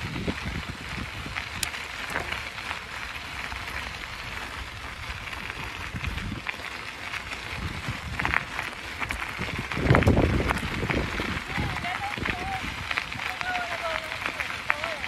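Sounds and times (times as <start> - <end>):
bicycle tyres rushing on road: 0.0 - 15.0
wind buffeting microphone: 0.0 - 15.0.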